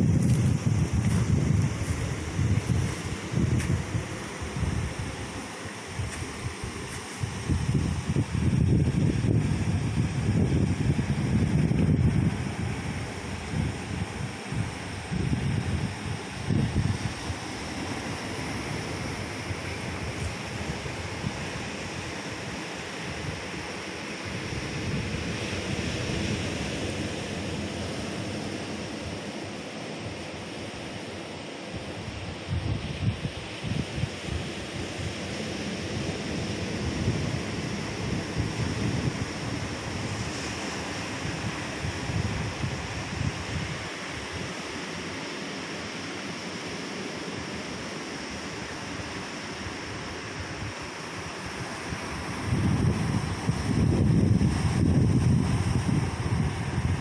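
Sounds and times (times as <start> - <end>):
wind rumbling on microphone: 0.0 - 45.8, 46.4 - 57.0.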